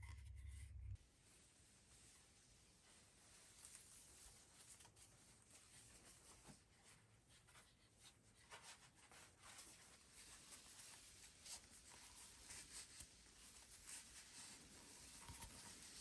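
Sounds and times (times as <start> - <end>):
faint scratching and rustling: 0.0 - 16.0.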